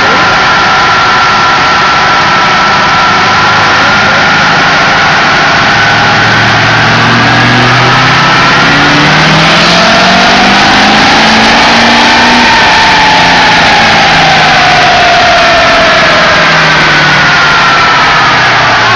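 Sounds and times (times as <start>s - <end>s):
diesel engine revving under load: 0.0s - 18.9s
rising whine: 0.0s - 18.9s.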